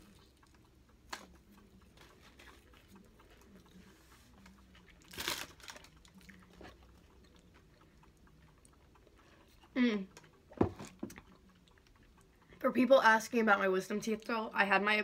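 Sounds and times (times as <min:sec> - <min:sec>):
person chewing crispy food: 0:00.0 - 0:12.6.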